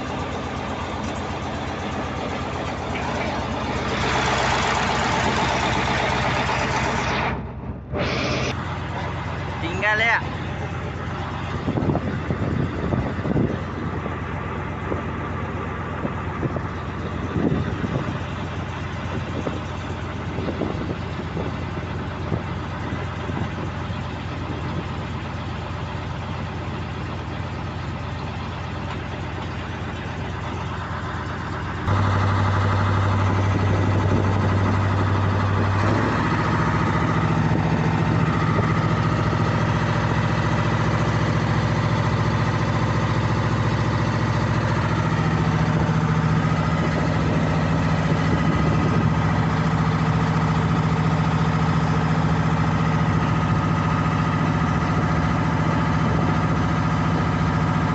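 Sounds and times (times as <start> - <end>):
boat diesel engine idling: 0.0 - 57.9.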